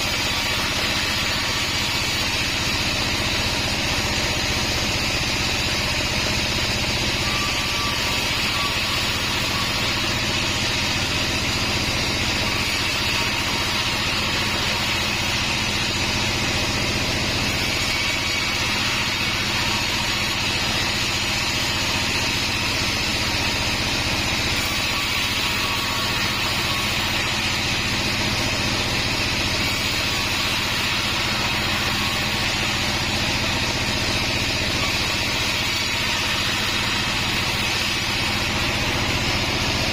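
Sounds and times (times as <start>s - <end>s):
sawmill motor humming: 0.0s - 39.9s.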